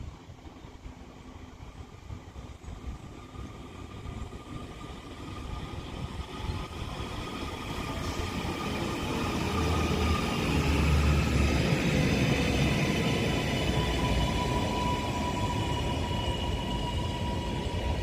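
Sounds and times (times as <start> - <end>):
train rumble and motor whine: 0.0 - 18.0.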